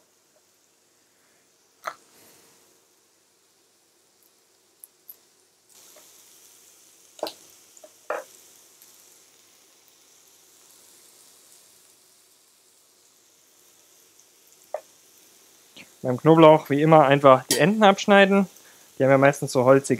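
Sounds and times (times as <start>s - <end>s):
onions sizzling in a wok: 0.0s - 19.9s.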